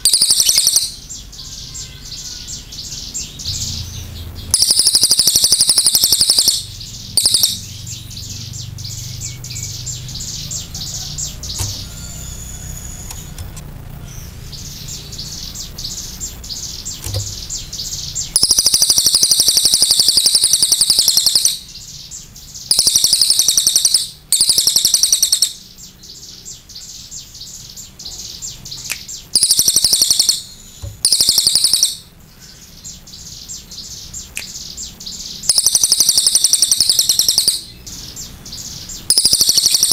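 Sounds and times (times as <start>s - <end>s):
jay singing in rattling bursts: 0.0s - 39.9s.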